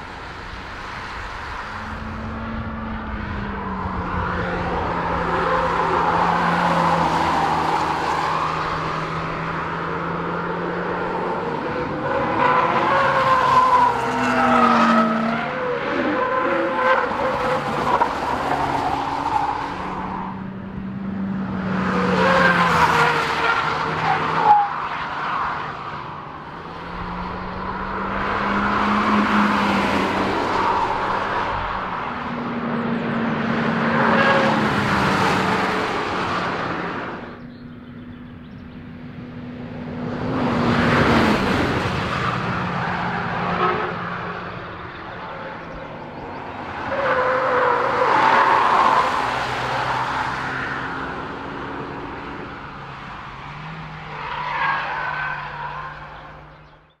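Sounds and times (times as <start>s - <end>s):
tyre and road noise: 0.0s - 57.0s.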